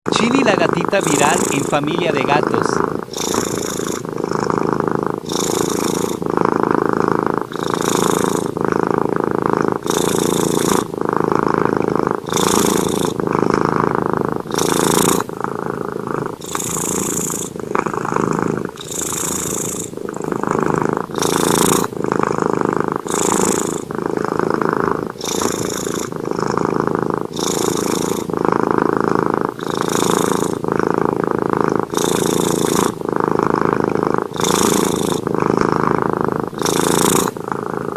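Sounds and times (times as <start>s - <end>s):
cat purring: 0.1s - 37.9s.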